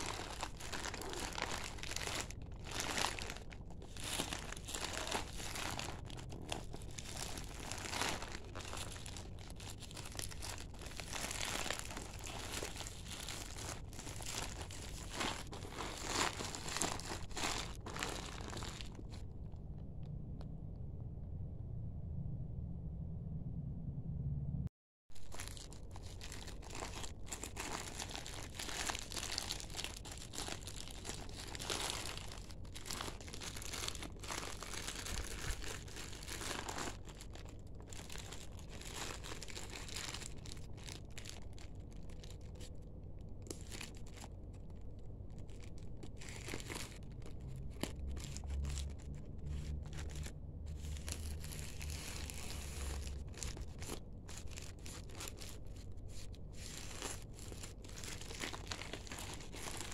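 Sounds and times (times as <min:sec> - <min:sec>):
plastic bag crinkling: 0:00.0 - 0:19.6, 0:25.2 - 0:59.9.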